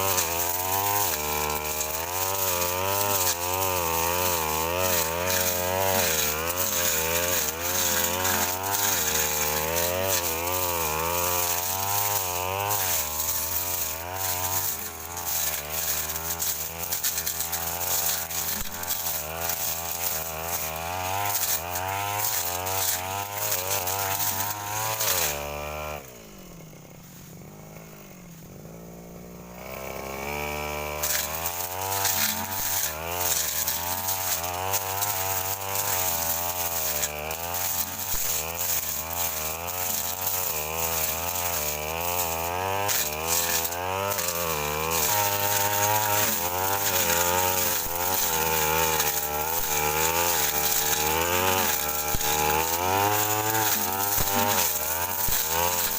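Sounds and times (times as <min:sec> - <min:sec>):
brush cutter engine revving: 0:00.0 - 0:55.9.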